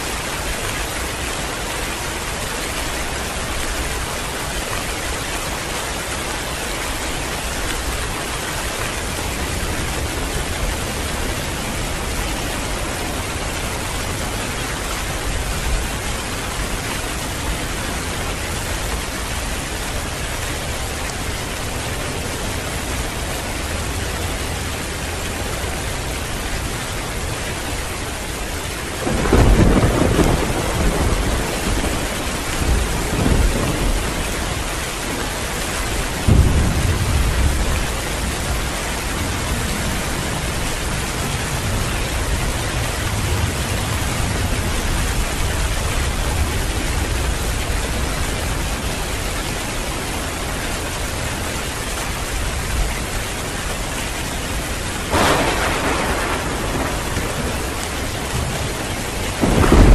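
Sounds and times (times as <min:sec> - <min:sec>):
heavy rain falling: 0:00.0 - 0:59.9
thunder rumbling: 0:06.8 - 0:49.8, 0:53.9 - 0:59.9.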